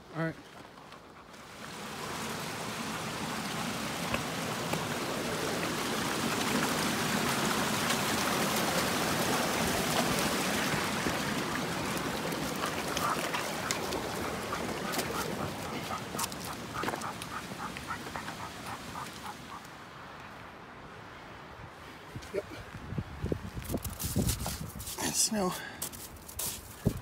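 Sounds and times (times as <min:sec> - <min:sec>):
creek rushing over rocks: 0:00.6 - 0:22.8.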